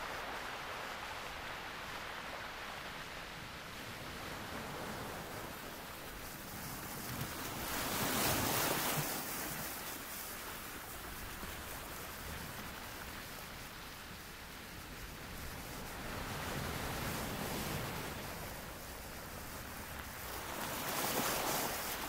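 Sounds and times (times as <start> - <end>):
sea surf washing onto beach: 0.0 - 22.0.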